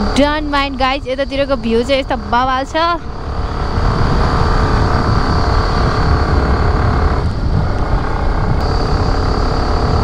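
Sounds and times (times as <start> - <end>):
scooter engine running: 0.0 - 10.0
wind rumble on microphone: 0.0 - 10.0.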